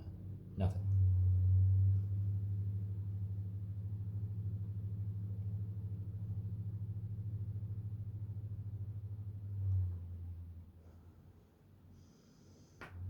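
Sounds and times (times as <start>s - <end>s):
low electrical hum with flutter: 0.0s - 13.0s.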